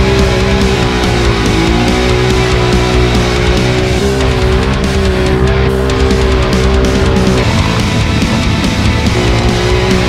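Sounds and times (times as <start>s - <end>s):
heavy rock music with guitar: 0.0s - 10.0s.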